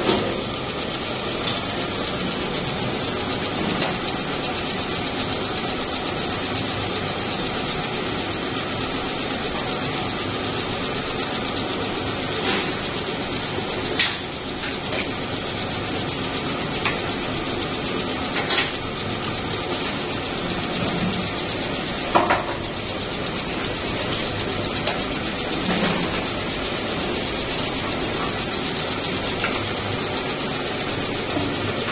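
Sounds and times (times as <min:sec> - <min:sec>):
machine running: 0:00.0 - 0:31.9.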